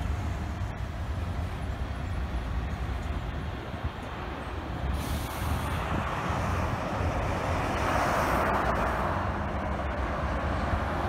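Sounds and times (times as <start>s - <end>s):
freeway traffic hiss: 0.0s - 11.0s
low traffic rumble: 0.0s - 11.0s.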